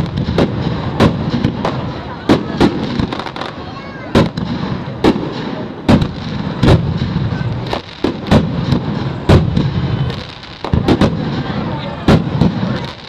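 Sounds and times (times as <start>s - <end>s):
firework shells bursting: 0.0s - 13.0s
low rumble of fireworks: 0.0s - 13.0s.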